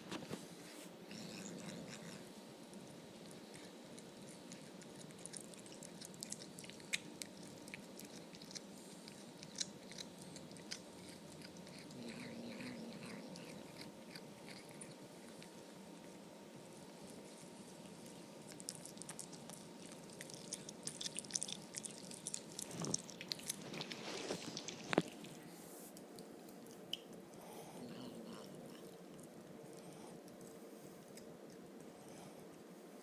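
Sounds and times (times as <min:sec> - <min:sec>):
cat chewing meat and bone: 0:00.2 - 0:33.0.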